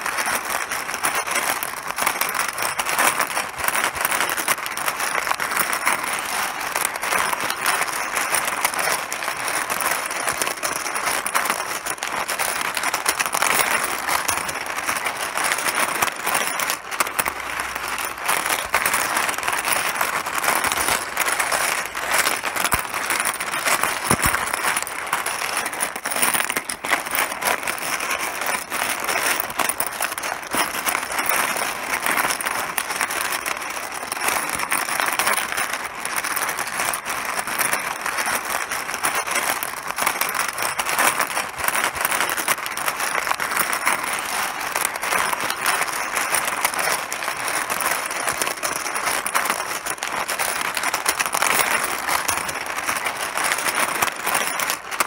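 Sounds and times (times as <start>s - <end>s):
mahjong tiles clattering: 0.0s - 55.0s.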